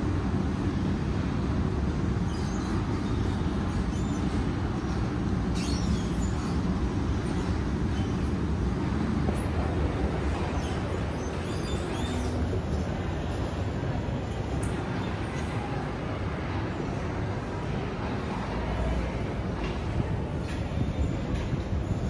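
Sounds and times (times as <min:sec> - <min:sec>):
crowd and building rumble: 0:00.0 - 0:22.0.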